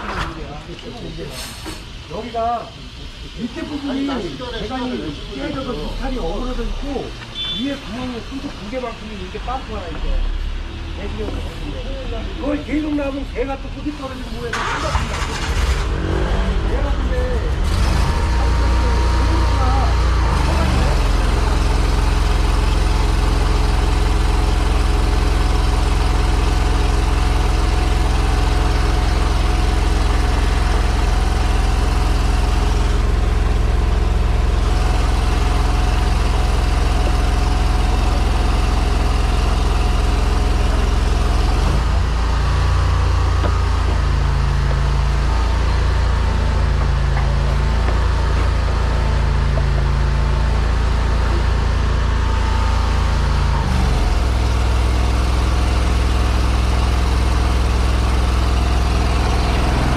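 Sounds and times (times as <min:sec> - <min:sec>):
sewer jetter engine and pump: 0:00.0 - 0:59.9.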